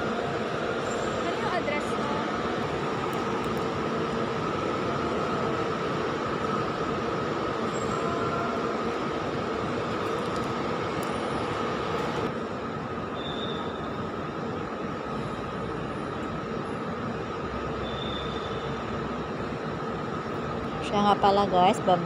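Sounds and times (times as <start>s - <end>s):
engines and machinery droning: 0.0s - 22.0s.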